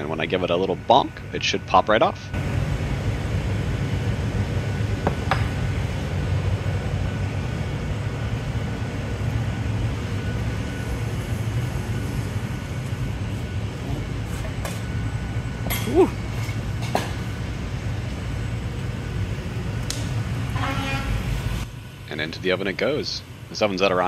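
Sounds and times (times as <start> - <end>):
furnace and exhaust hood roar: 0.0 - 24.0.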